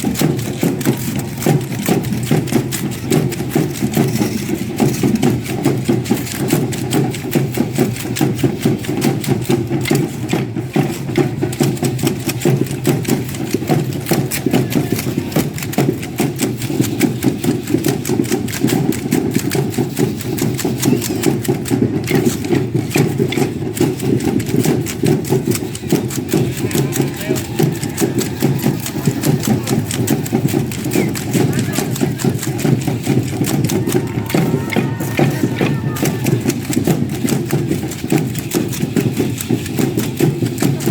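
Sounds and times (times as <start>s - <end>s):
hand rattles shaken: 0.0s - 40.9s.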